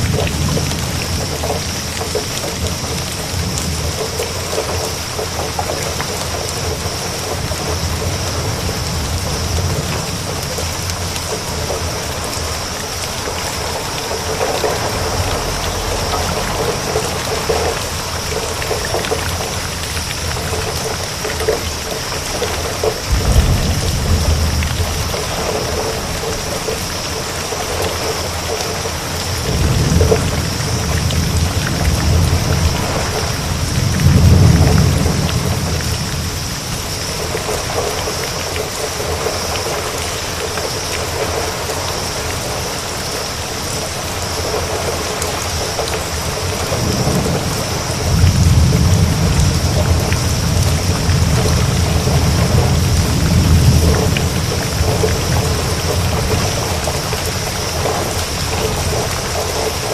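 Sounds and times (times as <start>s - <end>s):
thunder rumbling: 0.0s - 40.2s, 44.4s - 59.9s
heavy rain: 0.0s - 59.9s.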